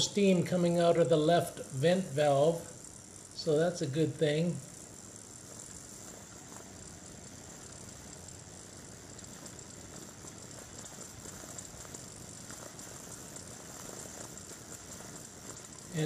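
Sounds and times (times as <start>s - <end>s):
light bubbling: 0.0s - 16.0s
small crackles: 0.0s - 16.0s
steam hissing: 0.0s - 16.0s.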